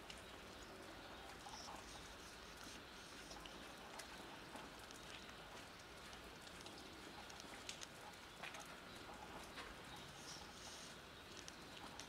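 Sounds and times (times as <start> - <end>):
faint outdoor hiss: 0.0 - 12.0
soft ticks: 0.0 - 12.0.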